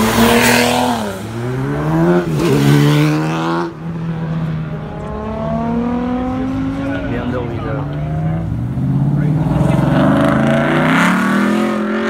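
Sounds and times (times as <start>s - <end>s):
car engine revving past: 0.0s - 12.0s.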